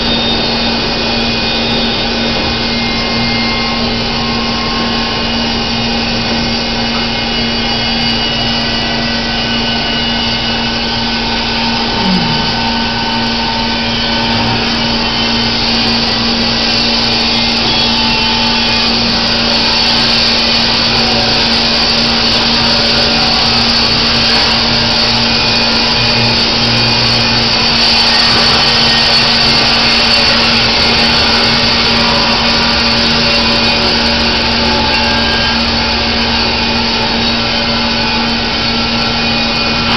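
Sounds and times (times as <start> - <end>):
band sawmill motor hum: 0.0 - 39.9.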